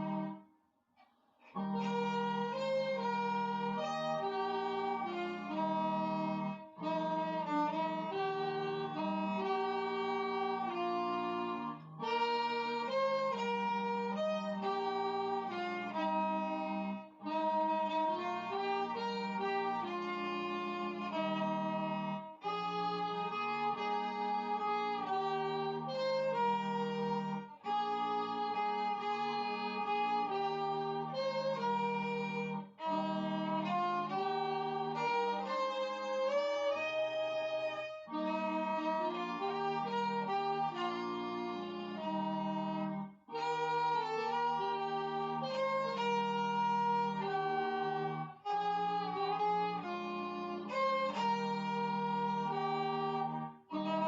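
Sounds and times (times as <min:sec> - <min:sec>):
alto saxophone: 0:00.0 - 0:00.5, 0:01.4 - 0:54.0
violin playing slow melody: 0:00.0 - 0:00.5, 0:01.4 - 0:54.0.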